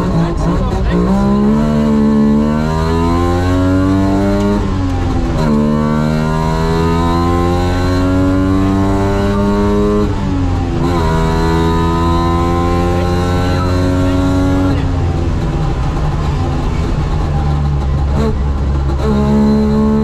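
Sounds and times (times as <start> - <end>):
two-stroke engine accelerating: 0.0 - 20.0.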